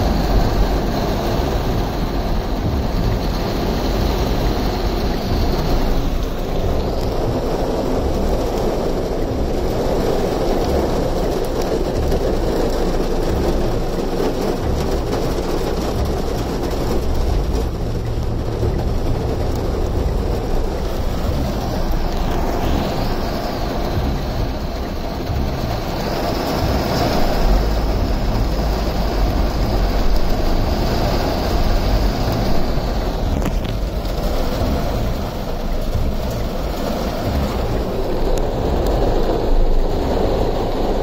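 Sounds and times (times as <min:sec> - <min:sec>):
heavy rain and wind rushing: 0:00.0 - 0:41.0
low rumble: 0:00.0 - 0:41.0.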